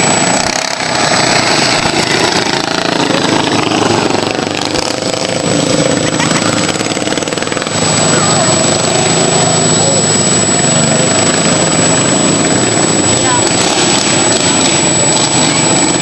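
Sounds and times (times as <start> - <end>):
racing lawn mower engines: 0.0 - 16.0.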